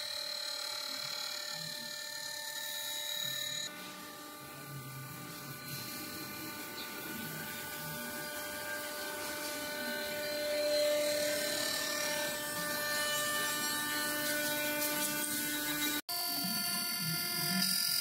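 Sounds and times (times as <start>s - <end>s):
wood router whining: 0.0s - 18.0s.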